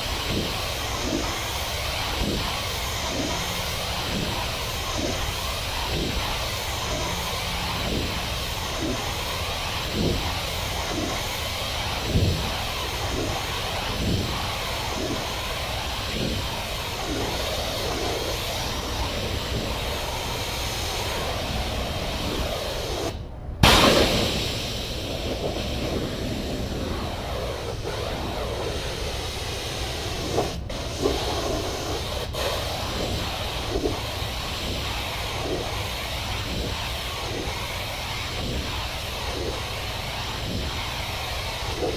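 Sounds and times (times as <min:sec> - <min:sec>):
low engine drone: 0:00.0 - 0:41.9
pressure washer spraying hiss: 0:00.0 - 0:41.9.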